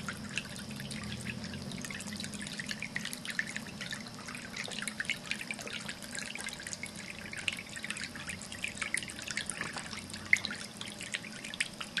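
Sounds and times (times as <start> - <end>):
water dripping into bowl: 0.0 - 12.0.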